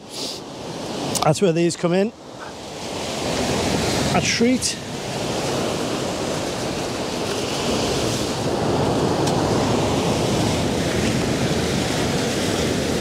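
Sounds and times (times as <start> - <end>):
waves breaking on rocks: 0.5 - 13.0.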